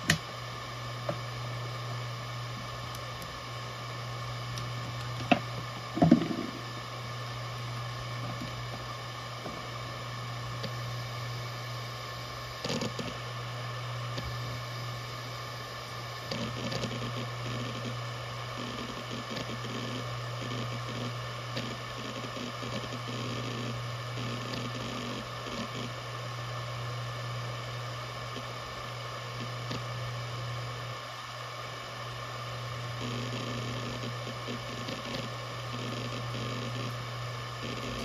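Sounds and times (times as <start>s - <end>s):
hard drive head seek ticking: 0.0s - 31.0s, 31.6s - 38.0s
hard drive spindle hum: 0.0s - 38.0s.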